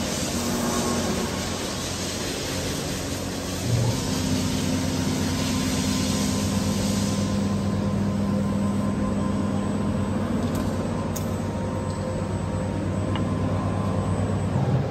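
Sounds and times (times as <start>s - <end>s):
machine hum: 0.0s - 14.9s.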